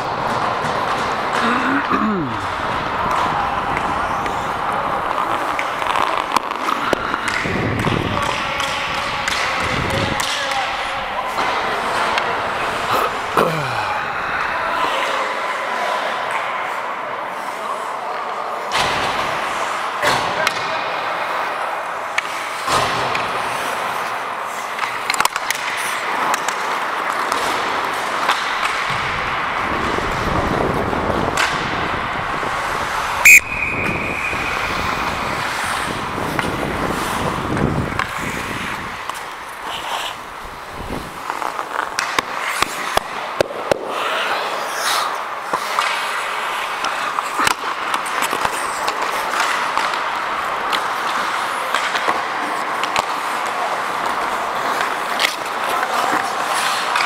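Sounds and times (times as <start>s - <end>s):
skate blades scraping ice: 0.0s - 17.9s, 18.5s - 57.0s
sticks and puck clacking: 0.0s - 57.0s.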